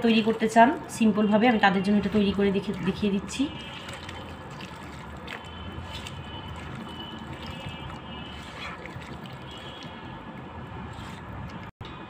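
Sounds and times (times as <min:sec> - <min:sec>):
hand mixing wet meat: 0:00.0 - 0:11.7.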